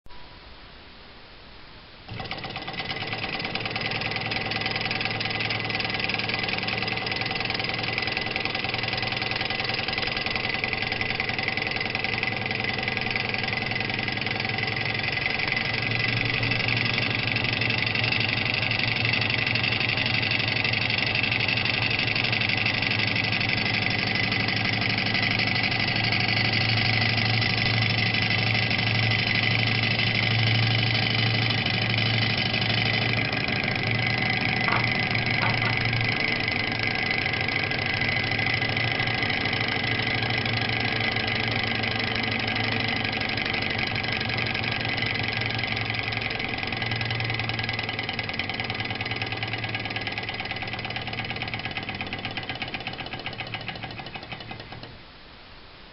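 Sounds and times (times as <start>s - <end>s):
model engine whirring clatter: 2.1s - 54.9s.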